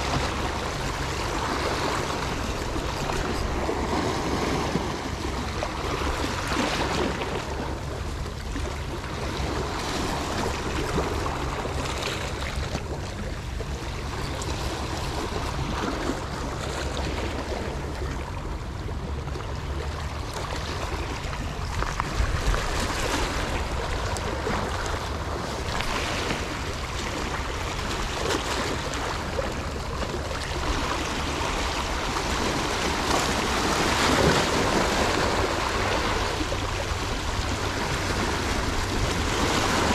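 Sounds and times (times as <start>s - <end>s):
sea water washing: 0.0s - 39.9s.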